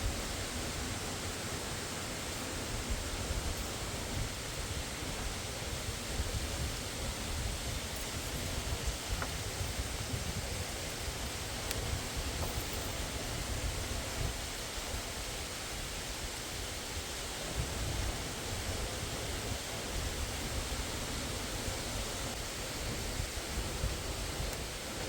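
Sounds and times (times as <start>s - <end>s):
fast river rushing: 0.0s - 25.0s.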